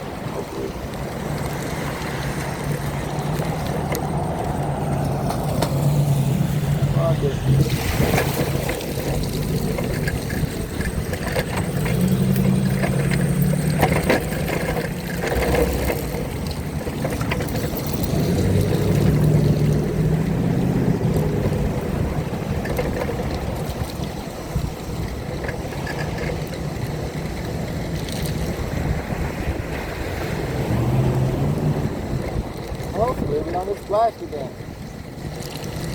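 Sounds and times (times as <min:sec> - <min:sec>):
vehicles passing on wet road: 0:00.0 - 0:35.9
wind noise on microphone: 0:00.0 - 0:35.9.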